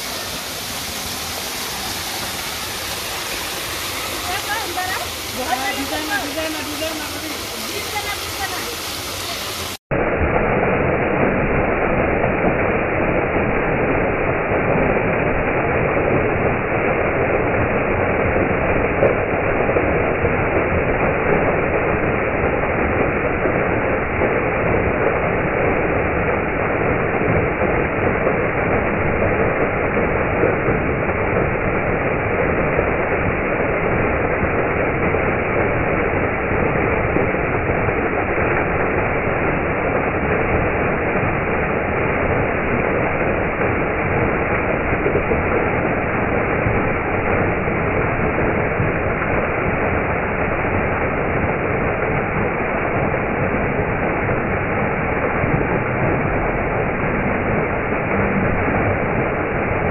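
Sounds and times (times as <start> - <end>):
waterfall splashing onto boulders: 0.0 - 59.9.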